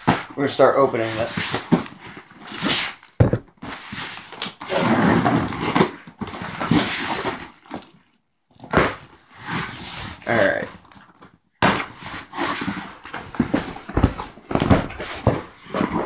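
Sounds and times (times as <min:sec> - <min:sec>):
cardboard scraping and rustling: 0:00.0 - 0:07.9, 0:08.6 - 0:16.0.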